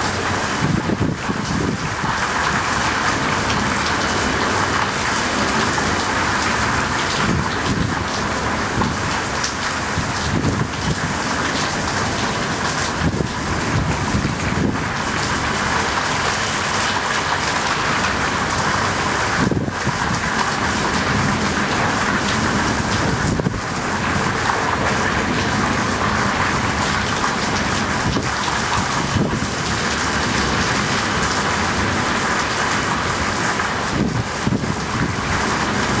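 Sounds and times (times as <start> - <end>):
heavy rain falling on street: 0.0 - 36.0.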